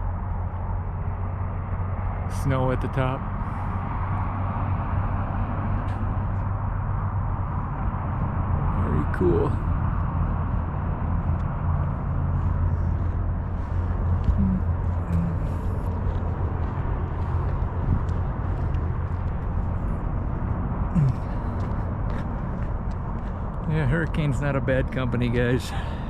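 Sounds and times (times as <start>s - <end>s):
vehicle engines rumbling: 0.0s - 26.0s.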